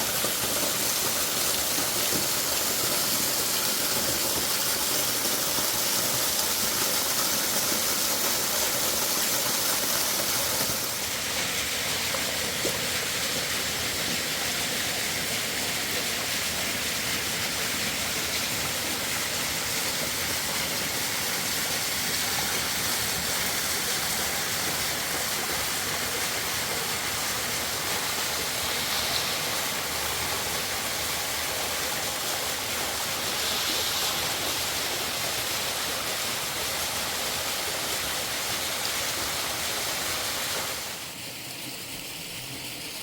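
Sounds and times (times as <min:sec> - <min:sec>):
rushing mountain river: 0:00.0 - 0:41.1.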